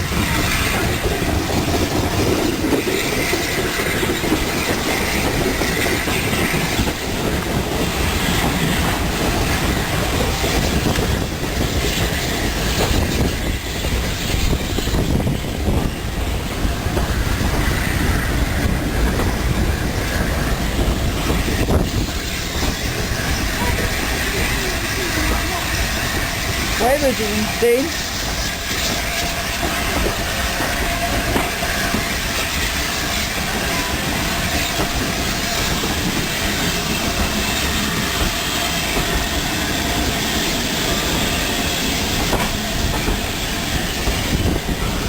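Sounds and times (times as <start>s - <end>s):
train wheels clattering over rails: 0.0s - 45.0s.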